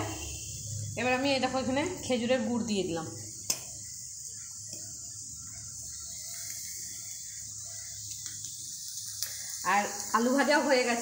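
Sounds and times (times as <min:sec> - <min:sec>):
potatoes frying in oil: 0:00.0 - 0:11.0.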